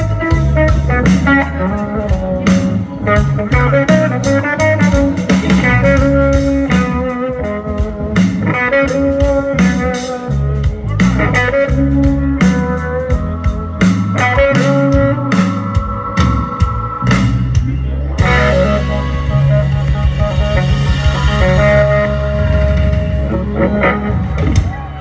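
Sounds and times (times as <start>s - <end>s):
bass: 0.0s - 25.0s
drums: 0.0s - 25.0s
electric guitars: 0.0s - 25.0s.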